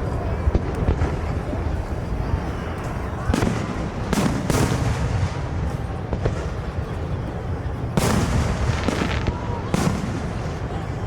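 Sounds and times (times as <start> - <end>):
fireworks booming: 0.0 - 2.0, 3.2 - 11.0
rumble of echoing explosions: 0.0 - 11.0.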